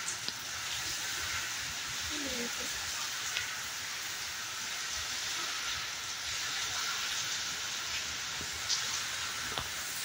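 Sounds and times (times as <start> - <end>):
heavy rain on pavement: 0.0 - 10.0.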